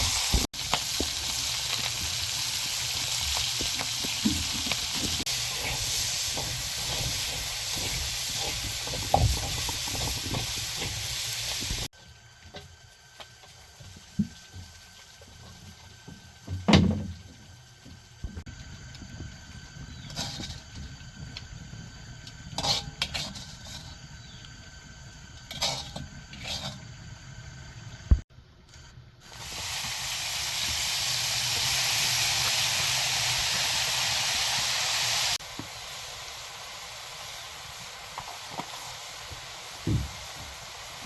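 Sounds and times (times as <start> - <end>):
loud steady hiss: 0.0 - 28.2, 29.2 - 41.0.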